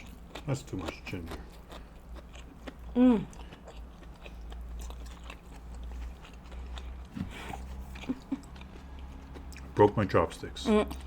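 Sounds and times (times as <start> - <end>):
chewing with wet clicks: 0.0 - 11.0.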